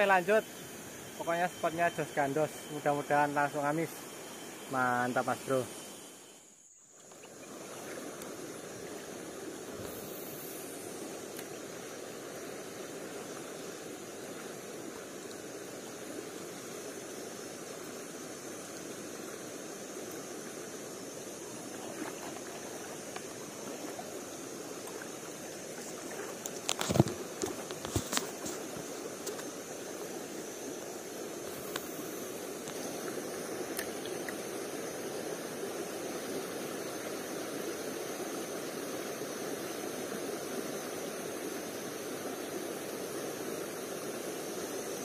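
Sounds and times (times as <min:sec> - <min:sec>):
stream water flowing: 0:00.0 - 0:45.0.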